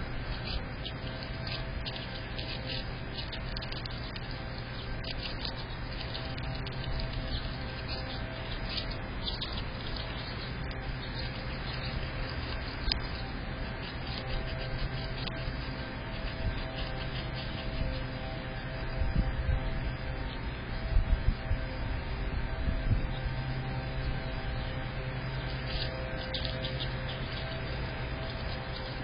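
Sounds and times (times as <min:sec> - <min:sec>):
squirrel chewing and crunching: 0:00.0 - 0:20.7, 0:23.1 - 0:29.0
low hum: 0:00.0 - 0:29.0.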